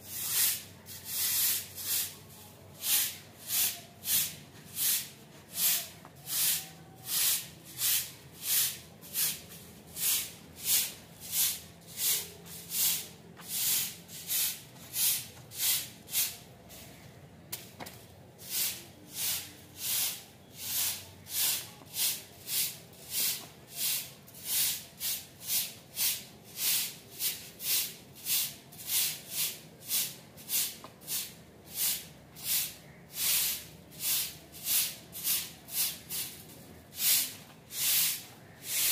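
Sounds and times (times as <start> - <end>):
broom sweeping concrete floor: 0.0 - 38.9.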